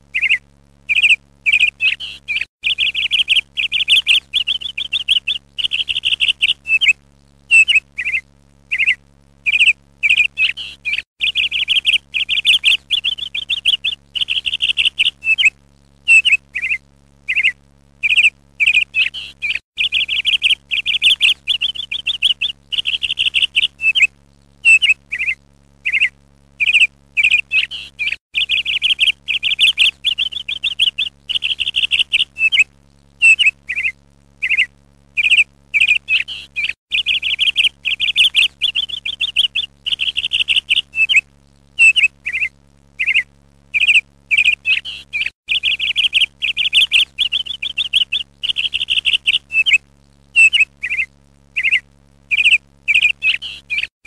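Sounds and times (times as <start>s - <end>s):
songbird chirping: 0.1s - 41.2s, 41.8s - 49.8s, 50.4s - 53.9s.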